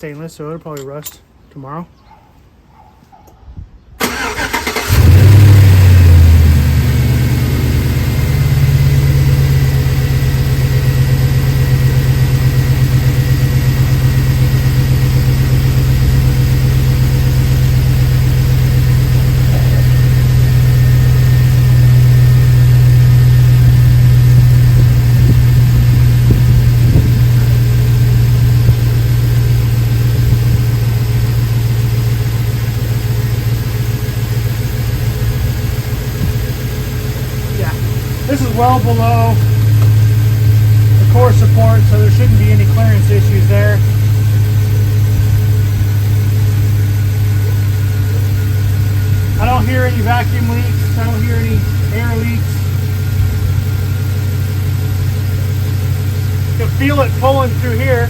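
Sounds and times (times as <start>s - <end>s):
truck engine starting and idling: 4.0s - 58.0s.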